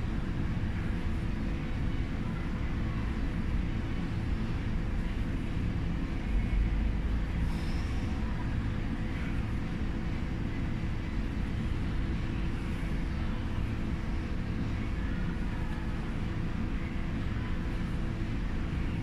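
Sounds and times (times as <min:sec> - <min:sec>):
faint steady hum: 0:00.0 - 0:19.0
low room rumble: 0:00.0 - 0:19.0.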